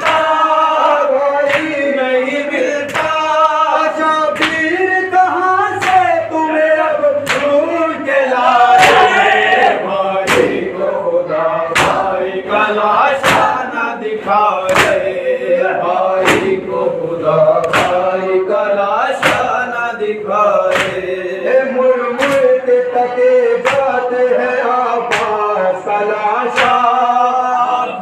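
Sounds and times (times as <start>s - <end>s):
men chanting together: 0.0s - 28.0s.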